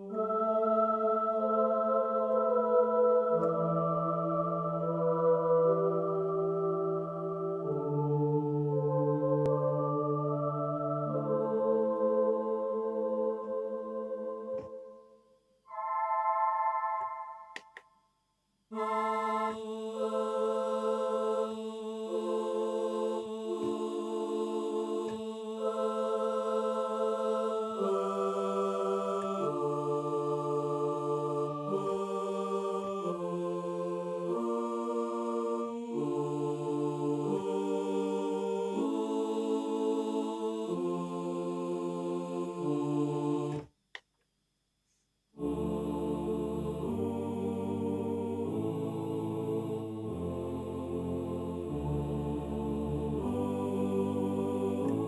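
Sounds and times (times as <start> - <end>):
synthesizer choir chords: 0.0 - 17.9, 18.7 - 43.7, 45.4 - 55.0.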